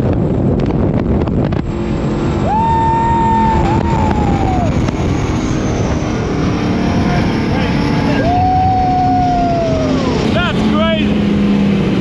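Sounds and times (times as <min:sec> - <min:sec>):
speedboat engine and water rush: 0:00.0 - 0:12.0.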